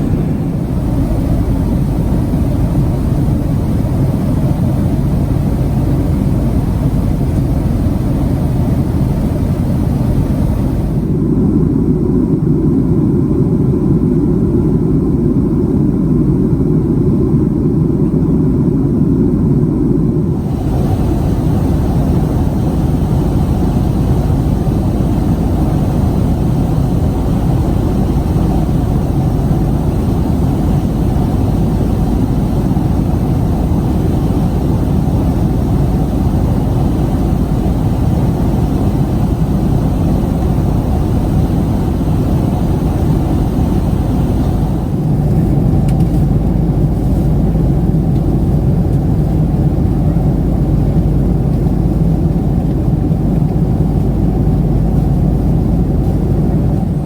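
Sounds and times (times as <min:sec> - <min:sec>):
airplane cabin engine noise: 0:00.0 - 0:57.0.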